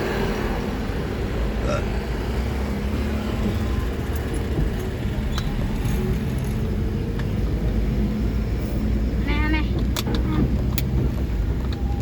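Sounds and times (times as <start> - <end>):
motor vehicle low rumble: 0.0 - 12.0.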